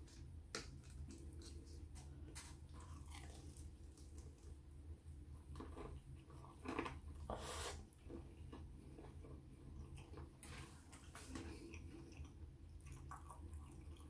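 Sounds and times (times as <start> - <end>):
person chewing crunchy food: 0.6 - 4.6, 5.5 - 14.0.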